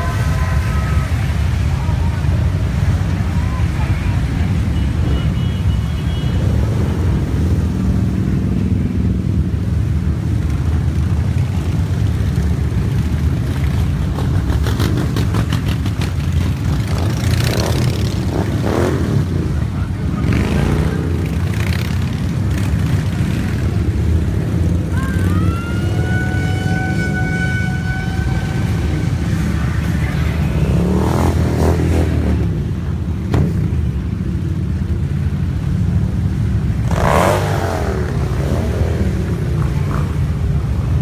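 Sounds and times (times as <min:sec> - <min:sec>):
motorcycle revving: 0:00.0 - 0:41.0
motorcycles riding past: 0:00.0 - 0:41.0.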